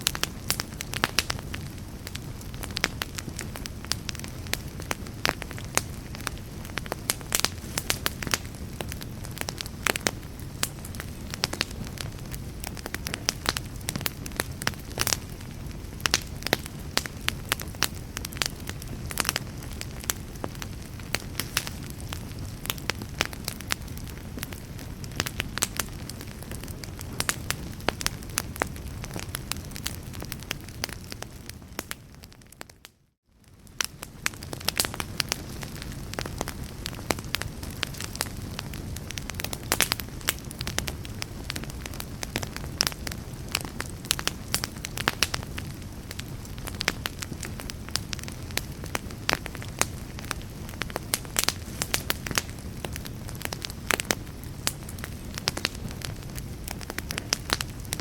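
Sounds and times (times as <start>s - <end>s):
low rush of flames: 0.0s - 32.8s, 33.4s - 58.0s
fire popping and snapping: 0.0s - 58.0s.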